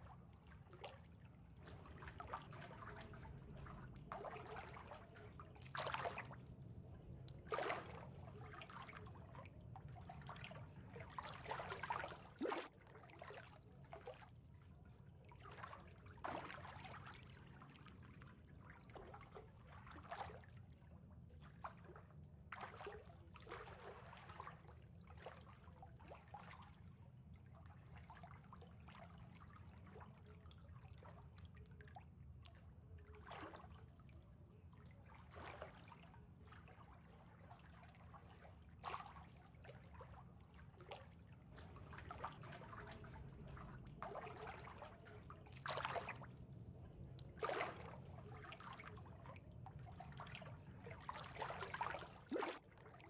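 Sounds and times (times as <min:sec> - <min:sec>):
small water splashes and gurgles: 0:00.0 - 0:53.0
water trickling and lapping: 0:00.0 - 0:53.0.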